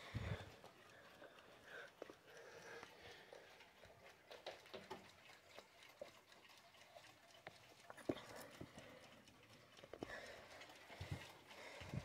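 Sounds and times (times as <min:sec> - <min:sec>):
faint irregular clicks: 0:00.0 - 0:12.0.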